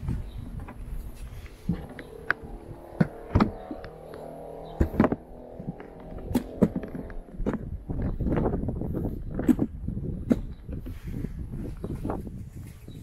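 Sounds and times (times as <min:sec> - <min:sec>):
low multi-tone hum: 0:00.0 - 0:12.3.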